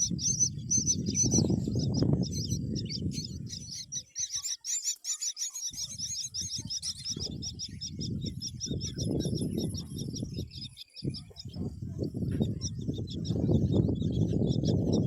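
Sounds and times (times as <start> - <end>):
nestlings chirping: 0.0 - 15.0.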